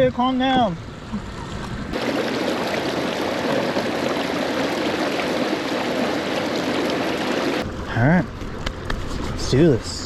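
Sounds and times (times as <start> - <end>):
water rushing along kayak hull: 1.6 - 9.6.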